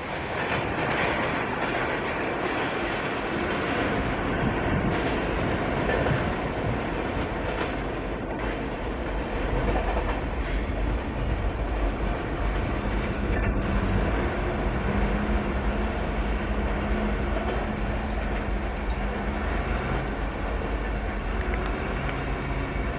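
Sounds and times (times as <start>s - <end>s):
train wheels on rails: 0.0s - 22.9s.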